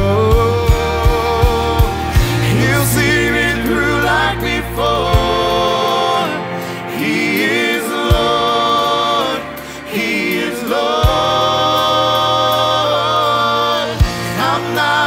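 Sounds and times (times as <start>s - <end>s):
acoustic guitar: 0.0s - 15.0s
piano: 0.0s - 15.0s
voices singing: 0.0s - 15.0s.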